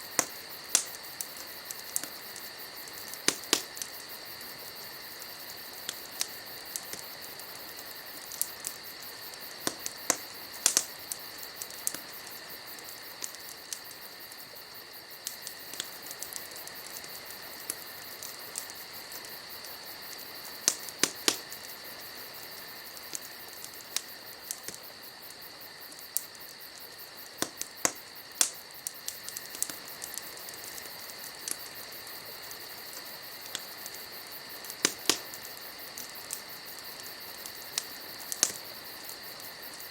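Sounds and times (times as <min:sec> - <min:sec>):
crickets chirring: 0:00.0 - 0:39.9
wood fire crackling and popping: 0:00.0 - 0:39.9.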